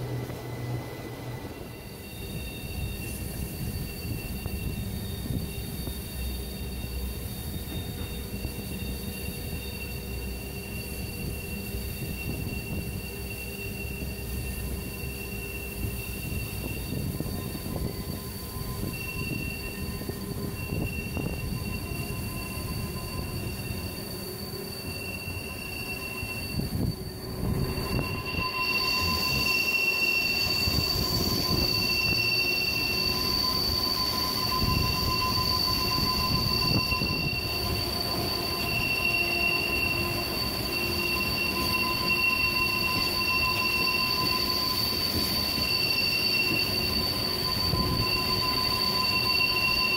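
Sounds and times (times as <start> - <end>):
train wheels rumbling on rails: 0.0 - 49.9
train wheels squealing: 0.0 - 49.9.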